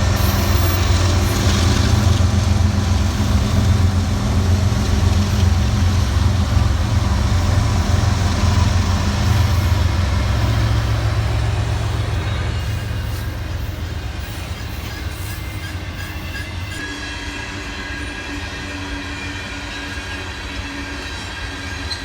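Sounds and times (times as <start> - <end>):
diesel locomotive engine droning: 0.0 - 22.0.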